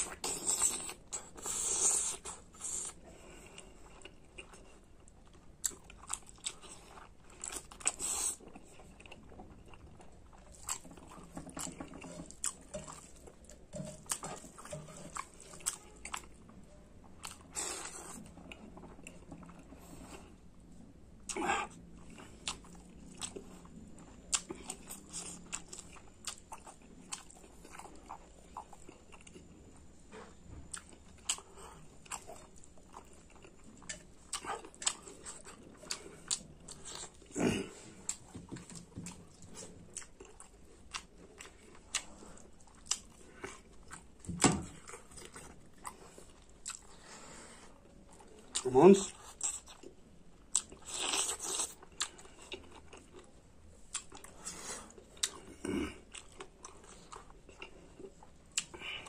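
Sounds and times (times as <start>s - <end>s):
person chewing: 0.0s - 59.0s.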